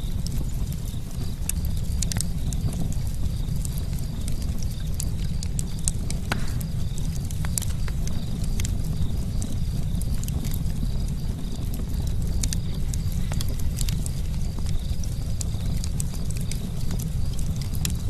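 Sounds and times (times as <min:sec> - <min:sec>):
campfire crackling: 0:00.0 - 0:18.0
low rumble of burning wood: 0:00.0 - 0:18.0.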